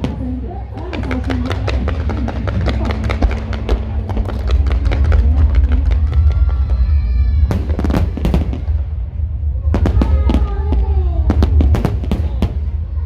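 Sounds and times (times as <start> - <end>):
firecrackers banging: 0.0 - 13.0
low rumble: 0.0 - 13.0.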